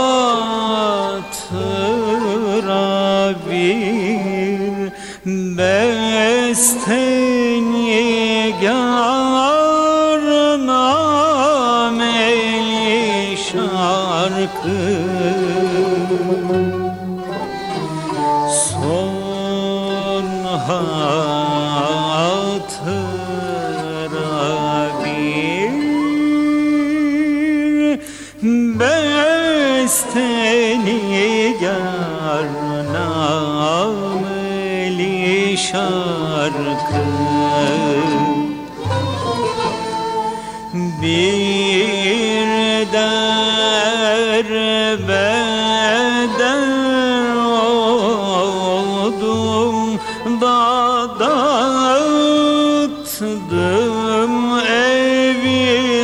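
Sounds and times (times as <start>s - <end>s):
instrumental accompaniment: 0.0s - 56.0s
man singing folk song: 0.0s - 56.0s.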